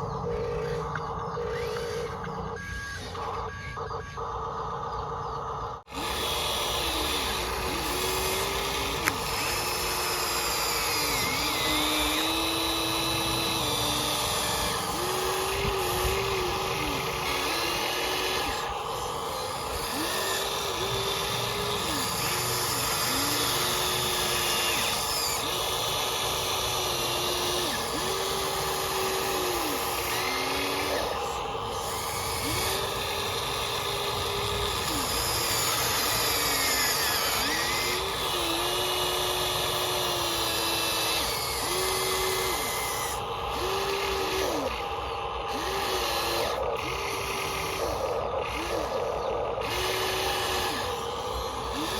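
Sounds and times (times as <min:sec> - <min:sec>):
small electric motors whining: 0:00.0 - 0:51.9.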